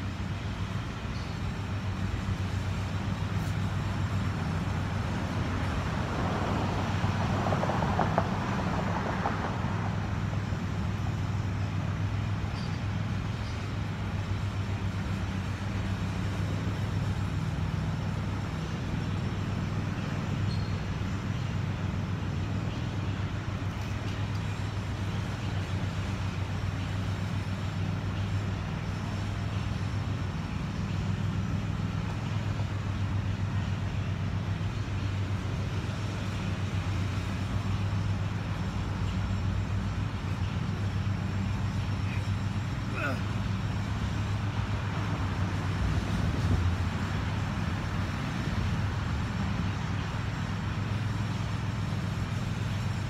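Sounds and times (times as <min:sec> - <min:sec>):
urban background drone: 0:00.0 - 0:53.0.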